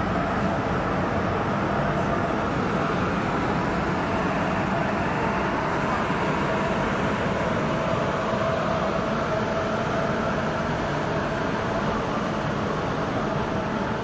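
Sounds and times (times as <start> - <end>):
machine humming steadily: 0.0 - 14.0.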